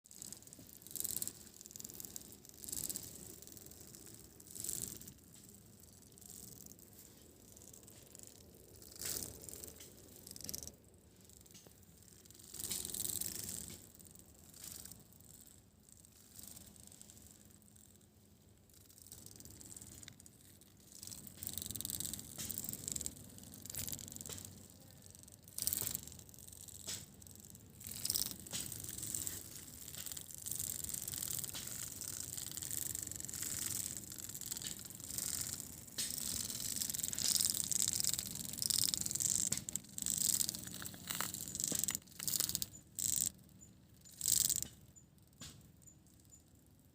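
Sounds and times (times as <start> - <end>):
termites rattling clicking: 0.1 - 46.7.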